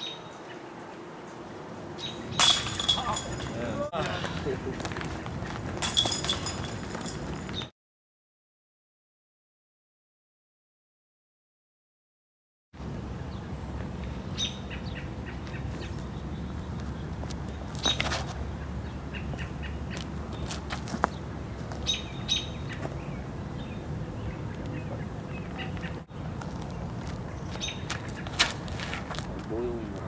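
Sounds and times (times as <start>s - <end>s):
birds chirping: 0.0s - 7.7s, 12.9s - 30.0s.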